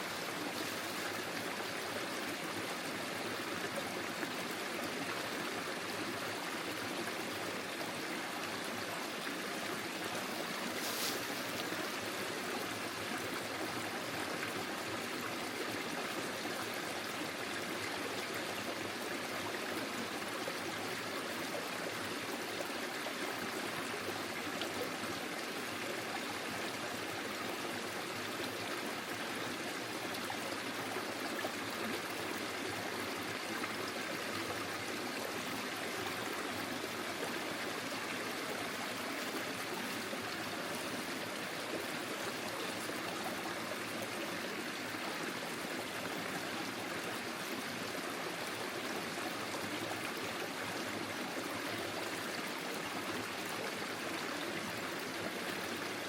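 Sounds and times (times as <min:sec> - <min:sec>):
forest stream flowing: 0:00.0 - 0:56.0.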